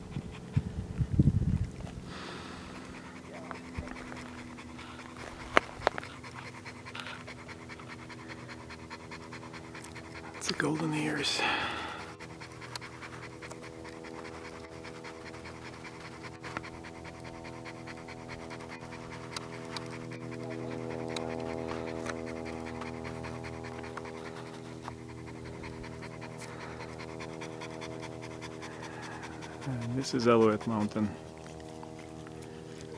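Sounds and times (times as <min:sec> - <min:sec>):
dog panting: 0:00.0 - 0:32.9
steady low hum: 0:00.0 - 0:32.9.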